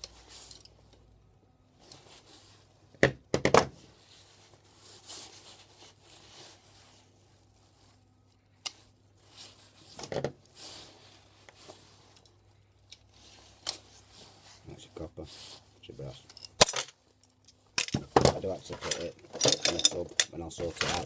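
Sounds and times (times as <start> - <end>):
handling and rustling: 0.0 - 2.9, 3.7 - 21.0.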